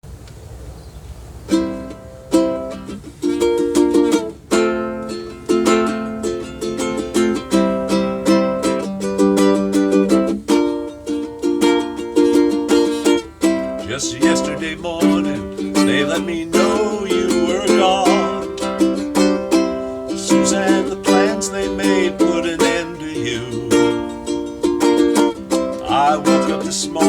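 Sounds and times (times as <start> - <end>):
ukulele playing chords: 1.5 - 27.0.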